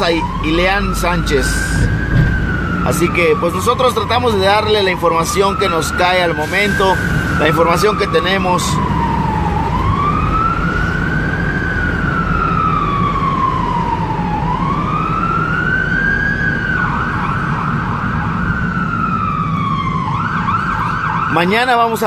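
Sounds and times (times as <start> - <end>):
car engine and road noise: 0.0 - 22.0
siren fast warble: 0.0 - 22.0
siren wailing: 0.0 - 22.0.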